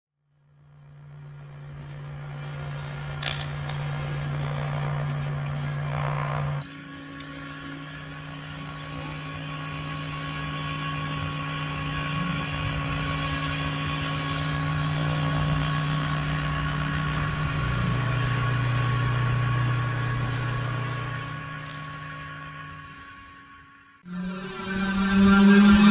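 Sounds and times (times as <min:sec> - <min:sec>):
hovering ufo humming drone: 0:00.6 - 0:25.9.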